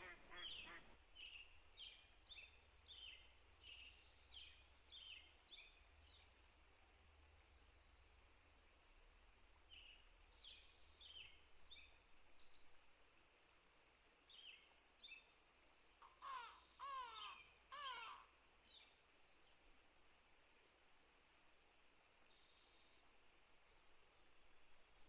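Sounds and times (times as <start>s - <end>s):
faint birdsong chirps: 0.0s - 25.0s.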